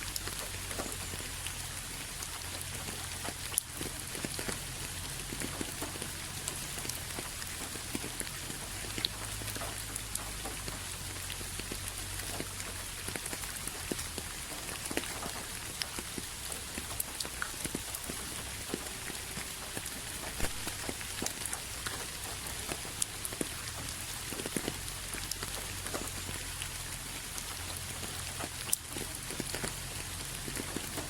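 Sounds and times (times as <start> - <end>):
raindrops ticking on a surface: 0.0 - 31.0
steady rain hiss: 0.0 - 31.0.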